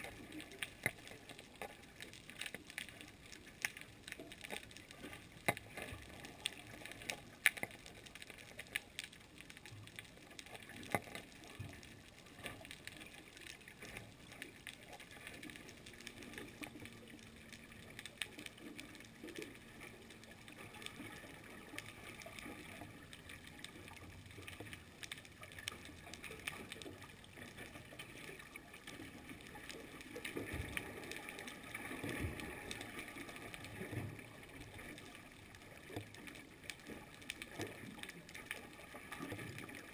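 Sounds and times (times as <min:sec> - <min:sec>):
faint steady hum: 0:00.0 - 0:39.9
sharp underwater clicks and crackle: 0:00.0 - 0:39.9.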